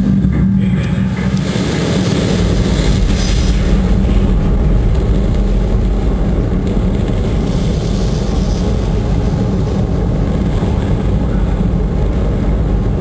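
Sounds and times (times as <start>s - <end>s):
rocket engines rumbling: 0.0s - 13.0s.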